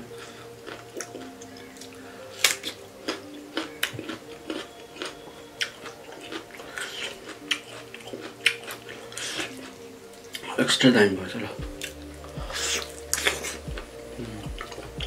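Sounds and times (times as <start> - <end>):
person chewing and smacking: 0.6 - 10.5, 11.6 - 15.0.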